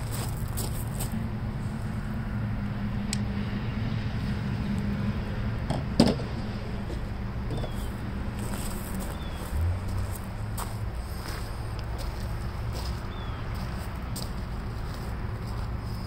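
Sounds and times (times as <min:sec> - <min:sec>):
low mechanical motor hum: 0:00.0 - 0:16.0.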